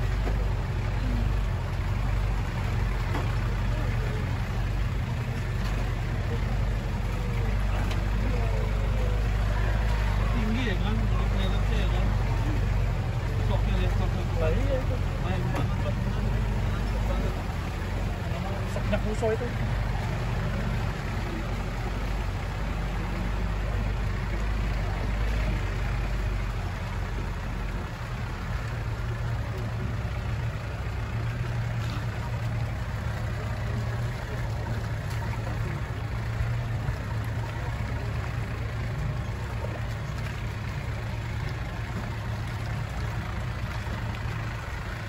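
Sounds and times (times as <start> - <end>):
car engine droning: 0.0 - 45.0.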